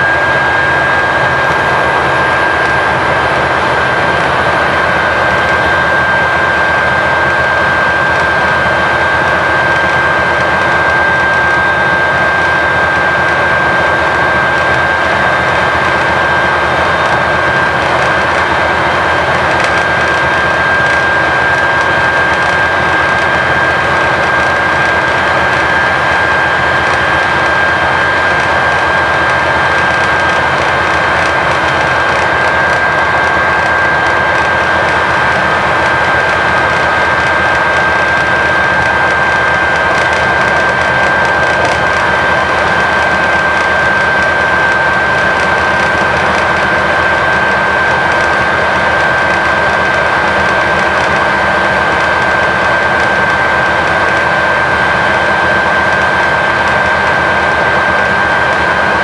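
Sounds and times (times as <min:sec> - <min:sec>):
diesel bus engine running hard: 0:00.0 - 0:59.0
steady high whine: 0:00.0 - 0:59.0.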